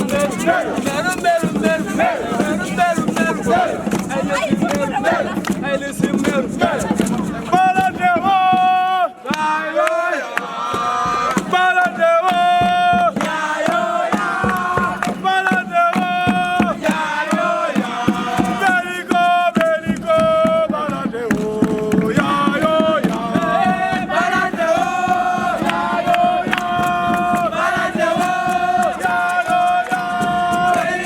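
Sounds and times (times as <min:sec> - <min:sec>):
group chanting in unison: 0:00.0 - 0:31.0
rapid percussive beat: 0:00.0 - 0:31.0.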